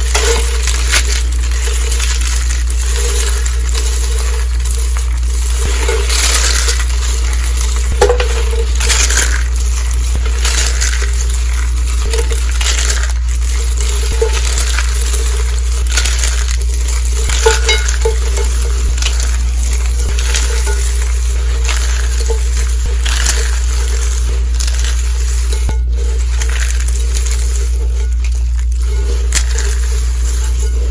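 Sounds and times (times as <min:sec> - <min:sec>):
soap being crushed crunching: 0:00.0 - 0:30.9.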